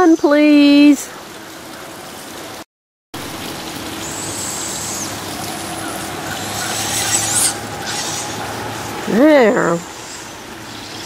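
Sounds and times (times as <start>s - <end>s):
running water trickling: 0.0s - 11.0s.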